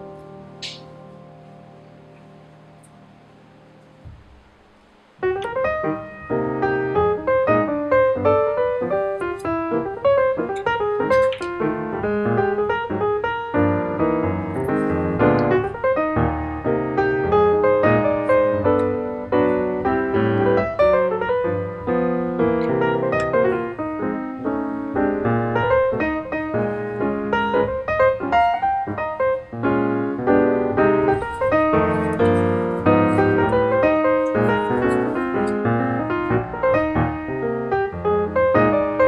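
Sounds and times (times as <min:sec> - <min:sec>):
background piano music: 0:00.0 - 0:39.0.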